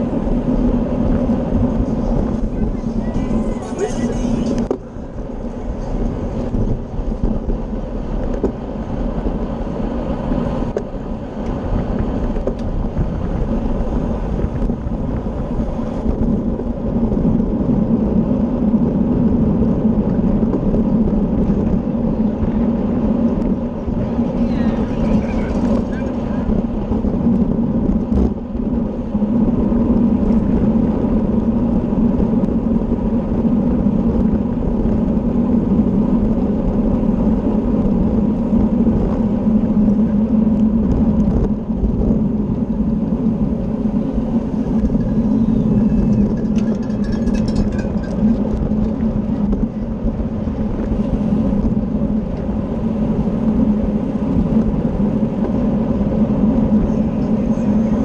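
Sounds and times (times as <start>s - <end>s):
steady low hum: 0.0s - 58.0s
wind rushing over microphone: 0.0s - 58.0s.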